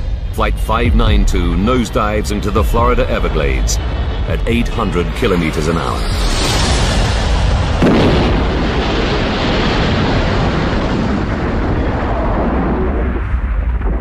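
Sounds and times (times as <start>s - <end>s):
deep rumble: 0.0s - 14.0s
jet airliner crashing and exploding: 0.0s - 14.0s.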